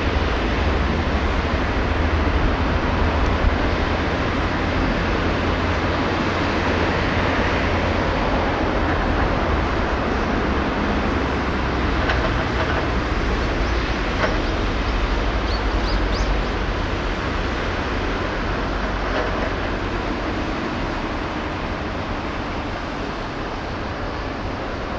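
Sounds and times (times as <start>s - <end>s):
outdoor background rumble with hiss: 0.0s - 24.9s.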